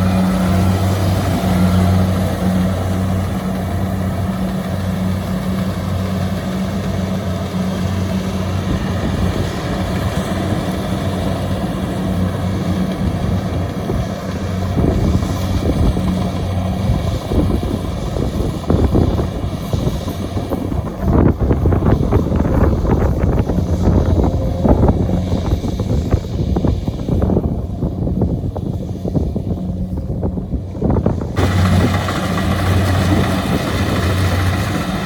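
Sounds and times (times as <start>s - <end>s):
combine harvester diesel engine: 0.0s - 35.0s
wind noise on microphone: 0.0s - 35.0s.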